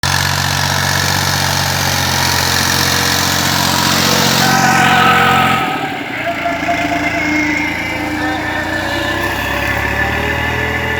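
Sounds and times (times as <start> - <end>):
tractor diesel engine running: 0.0 - 10.9
steady higher tones: 1.5 - 10.9.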